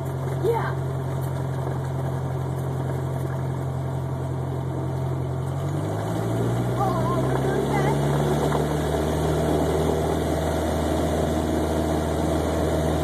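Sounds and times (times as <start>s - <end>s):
light aircraft engine humming: 0.0s - 13.0s.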